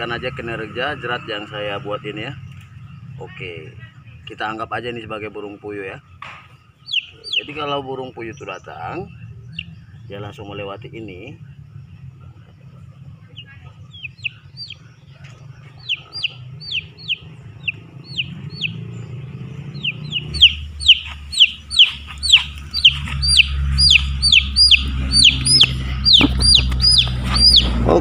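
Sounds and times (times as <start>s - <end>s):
chick peeping: 5.2s - 28.0s.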